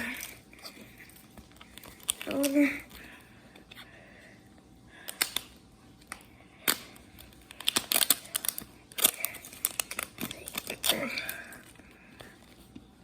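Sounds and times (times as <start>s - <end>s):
plastic wrapper crinkling: 0.0s - 3.1s, 5.1s - 12.7s.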